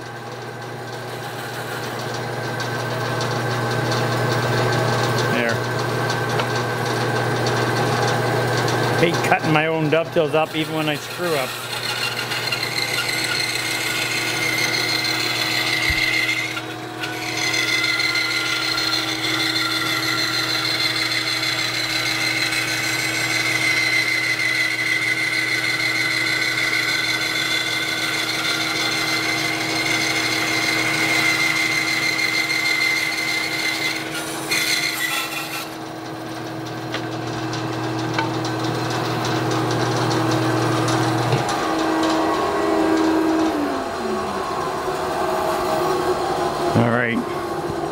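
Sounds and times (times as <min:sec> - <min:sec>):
bandsaw cutting wood: 0:00.0 - 0:47.9
saw motor hum: 0:00.0 - 0:47.9.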